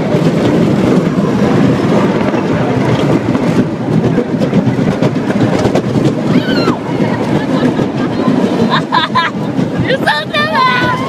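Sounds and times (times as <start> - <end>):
ride car rumbling on track: 0.0 - 11.0.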